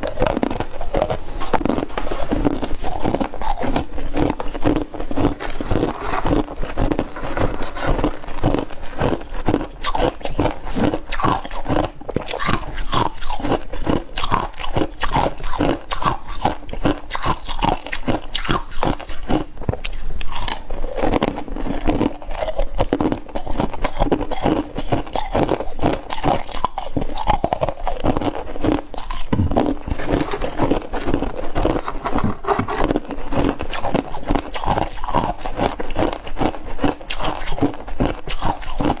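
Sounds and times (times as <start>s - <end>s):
ice crunching while chewed: 0.0s - 39.0s.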